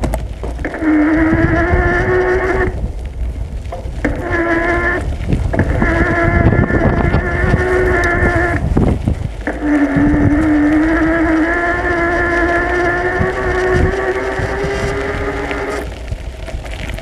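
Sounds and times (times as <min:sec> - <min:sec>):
bicycle tyres rumbling on gravel: 0:00.0 - 0:17.0
loud steady whining tone: 0:00.0 - 0:17.0
wind on microphone: 0:00.0 - 0:17.0.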